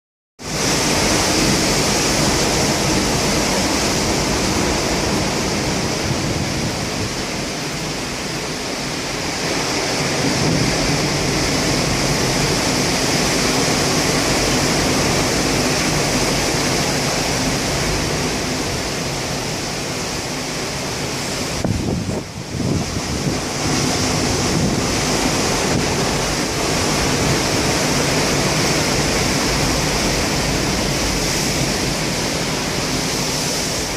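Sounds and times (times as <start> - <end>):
rough sea surf rushing: 0.4 - 33.9
wind buffeting microphone: 0.6 - 19.6, 20.7 - 33.9.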